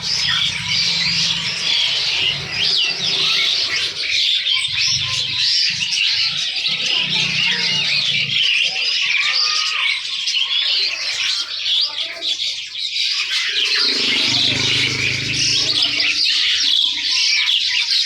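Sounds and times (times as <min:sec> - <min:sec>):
caged birds chirping and squawking: 0:00.0 - 0:18.0.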